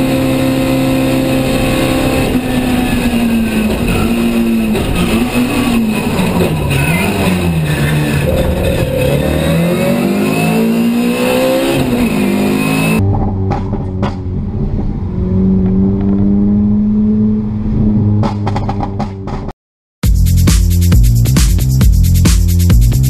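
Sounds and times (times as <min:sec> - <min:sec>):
car engine revving: 0:00.0 - 0:19.5.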